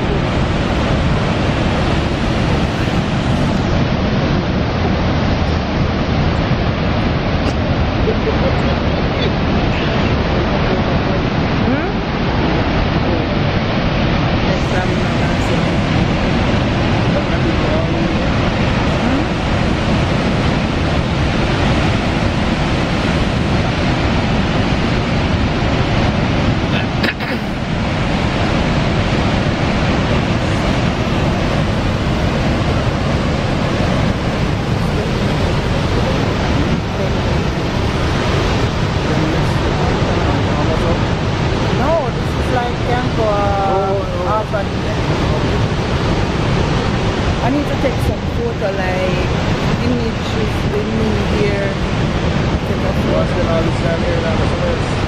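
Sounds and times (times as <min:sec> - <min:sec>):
waterfall rushing: 0:00.0 - 0:55.0
wind buffeting microphone: 0:00.0 - 0:55.0.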